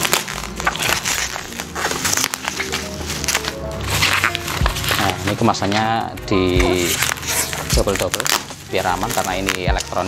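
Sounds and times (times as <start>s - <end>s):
background music: 0.0s - 10.0s
plastic wrapping crinkling: 0.0s - 10.0s.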